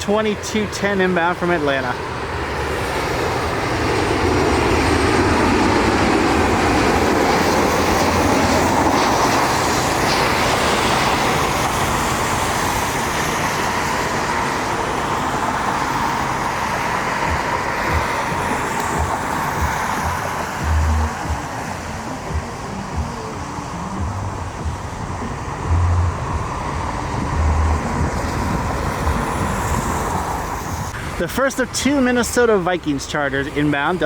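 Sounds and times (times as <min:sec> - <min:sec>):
jet airliner engines rumbling: 0:00.0 - 0:34.0.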